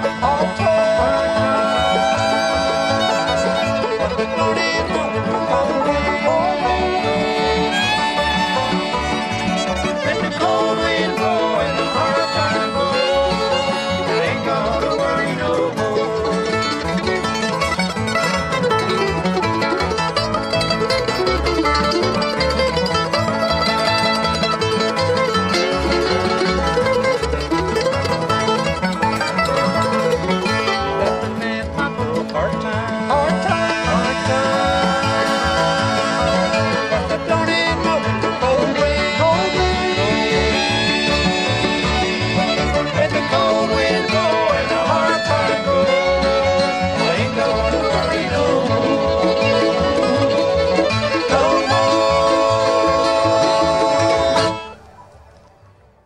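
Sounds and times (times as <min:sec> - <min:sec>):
fiddle playing lead: 0:00.0 - 0:55.8
plucked string backing: 0:00.0 - 0:56.0.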